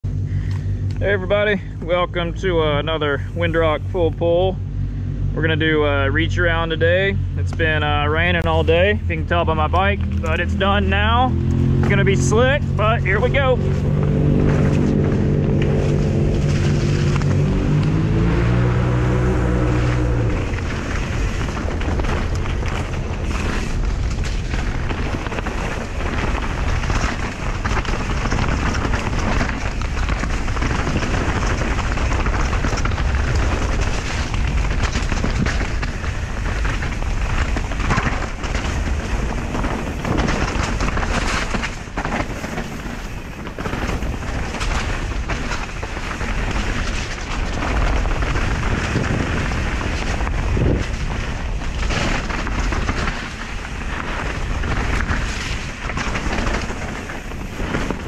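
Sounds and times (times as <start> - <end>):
mountain bike rumbling and rattling: 0.0 - 58.0
wind on microphone: 7.9 - 58.0.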